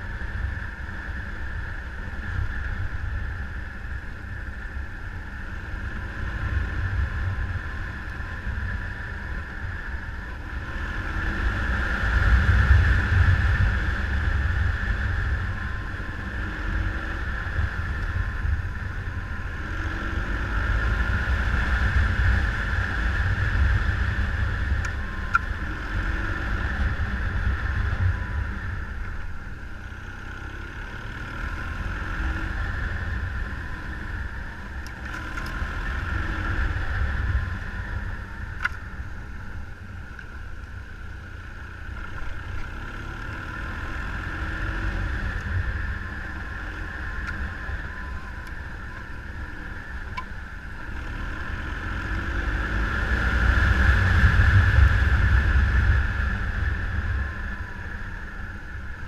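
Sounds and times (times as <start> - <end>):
wind rush on microphone: 0.0 - 41.0, 41.8 - 59.0
motorcycle engine running: 0.0 - 59.0.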